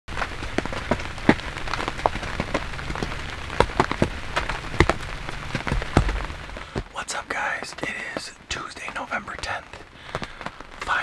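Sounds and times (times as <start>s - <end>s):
heavy raindrops tapping: 0.1s - 11.0s
steady rain: 0.1s - 11.0s.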